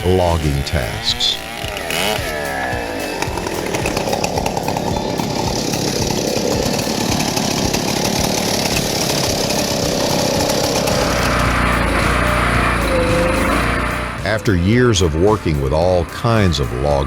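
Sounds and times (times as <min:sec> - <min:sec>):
chainsaw running: 0:00.0 - 0:17.0
deep steady hum: 0:00.0 - 0:17.0.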